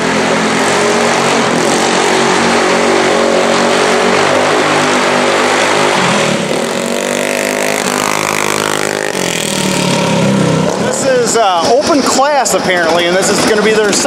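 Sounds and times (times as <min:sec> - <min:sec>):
lawn tractor engine at high revs: 0:00.0 - 0:14.0.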